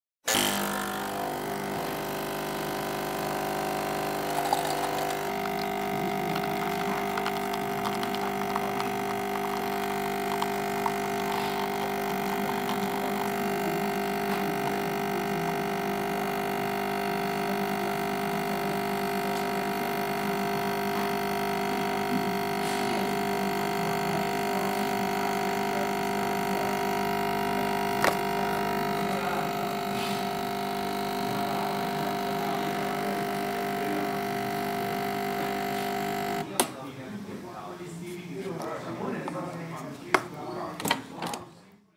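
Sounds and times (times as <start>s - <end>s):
coffee machine humming: 0.3s - 39.7s.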